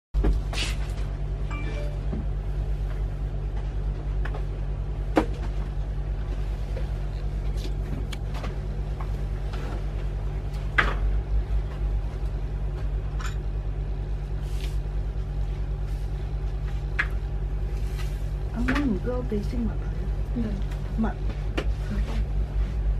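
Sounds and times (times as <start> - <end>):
steady low hum: 0.2 - 22.9.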